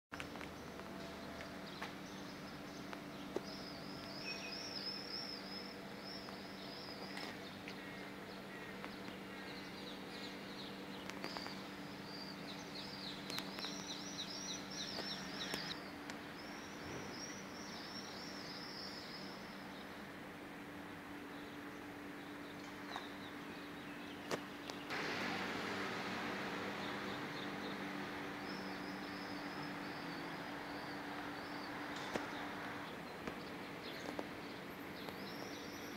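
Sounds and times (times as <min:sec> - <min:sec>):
steady low hum: 0:00.2 - 0:35.9.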